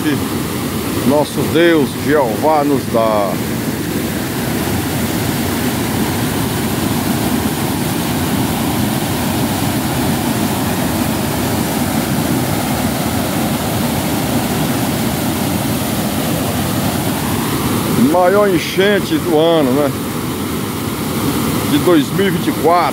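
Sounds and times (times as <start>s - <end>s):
roar of whitewater: 0.0s - 22.9s.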